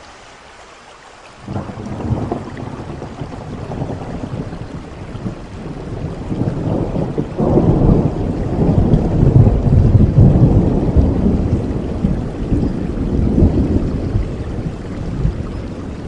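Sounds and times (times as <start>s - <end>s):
steady rain: 0.0s - 16.0s
thunder rolling: 1.4s - 16.0s.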